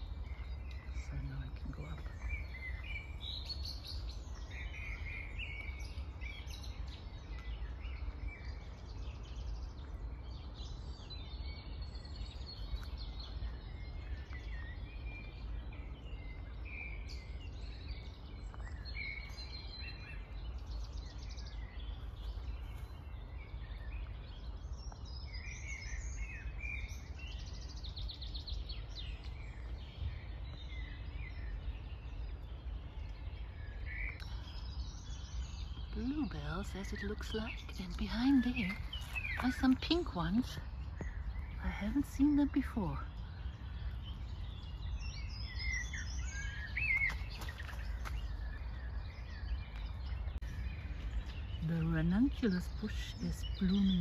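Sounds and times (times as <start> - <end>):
low rumble: 0.0 - 54.0
songbirds singing: 0.0 - 54.0.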